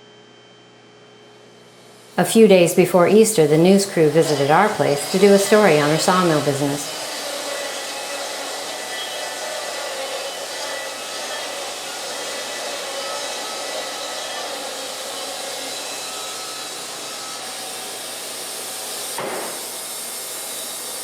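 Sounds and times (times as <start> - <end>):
band sawmill running: 1.7 - 21.0.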